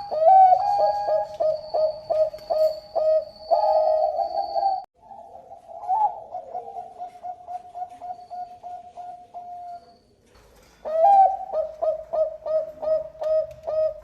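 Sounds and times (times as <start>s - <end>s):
dove cooing: 0.0s - 10.0s, 10.8s - 14.0s.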